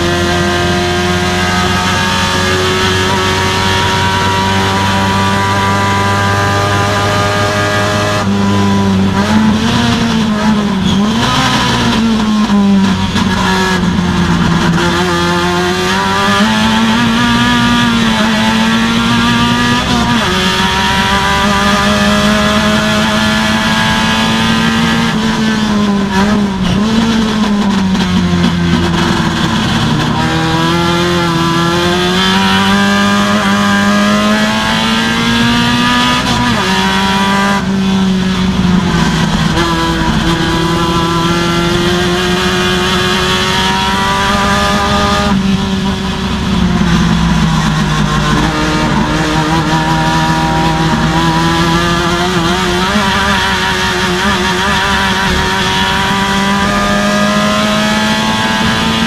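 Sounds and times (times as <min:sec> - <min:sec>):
race car engine: 0:00.0 - 0:59.0.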